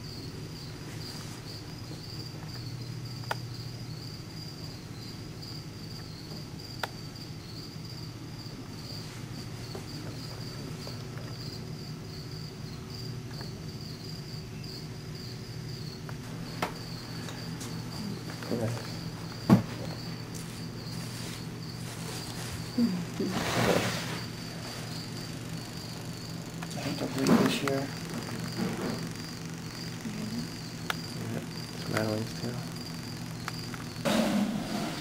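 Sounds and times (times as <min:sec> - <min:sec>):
cricket chirping: 0:00.0 - 0:35.0
low steady hum: 0:00.0 - 0:35.0.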